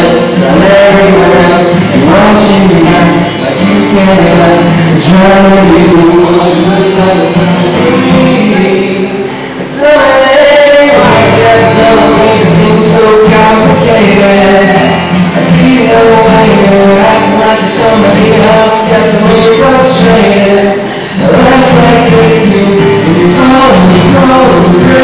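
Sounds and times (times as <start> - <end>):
man singing: 0.0 - 25.0
strummed acoustic guitar: 0.0 - 25.0.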